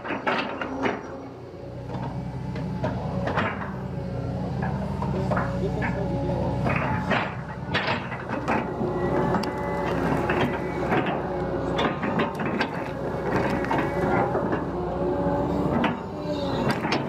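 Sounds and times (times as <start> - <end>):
excavator engine running: 0.0 - 17.0
hydraulic whine: 0.0 - 17.0.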